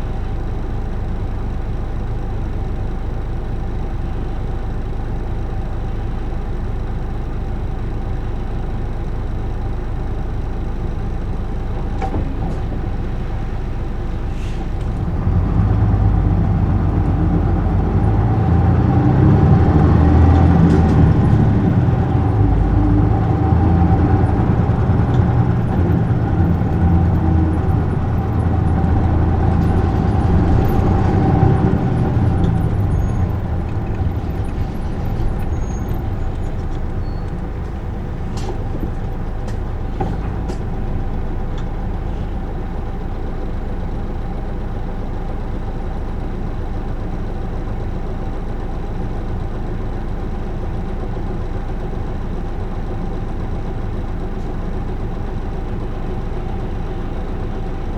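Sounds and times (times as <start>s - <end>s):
bus diesel engine: 0.0s - 57.9s.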